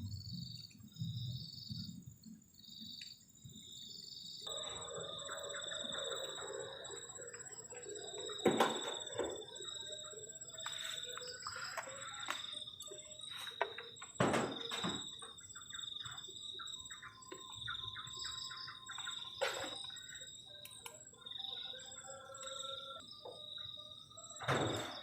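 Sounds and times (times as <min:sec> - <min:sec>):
bird chirping: 0:00.0 - 0:25.0
crickets trilling: 0:00.0 - 0:25.0.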